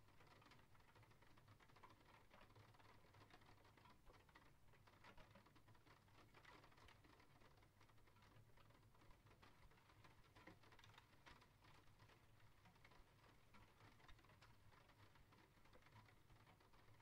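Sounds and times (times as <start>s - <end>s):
faint rain pattering: 0.0s - 17.0s.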